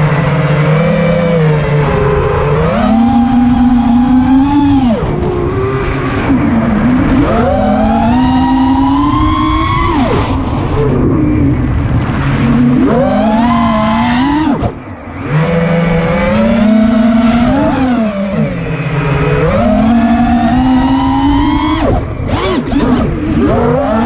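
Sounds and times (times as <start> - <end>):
drone motors whining: 0.0 - 24.0
wind on microphone: 0.0 - 24.0.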